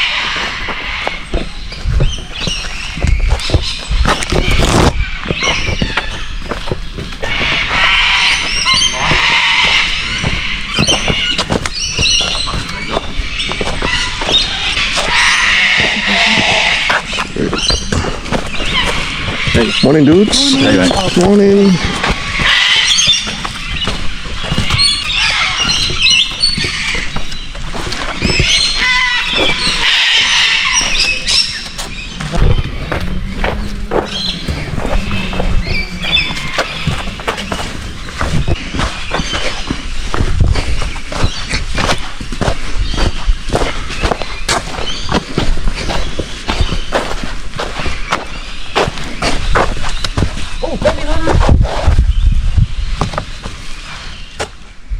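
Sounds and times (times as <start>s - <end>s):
chorus of birds calling: 0.0s - 54.9s.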